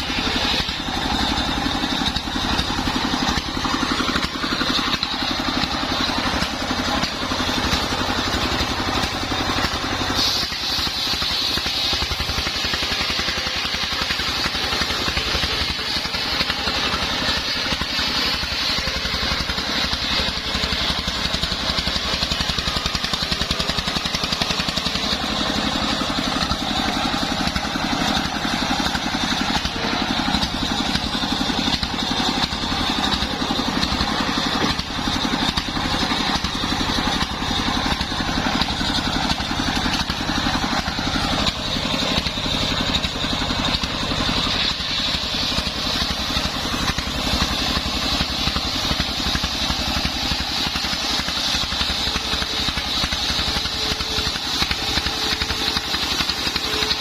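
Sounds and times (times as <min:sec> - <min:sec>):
engine drone: 0:00.0 - 0:57.0
saw blade whine and hiss: 0:00.0 - 0:57.0.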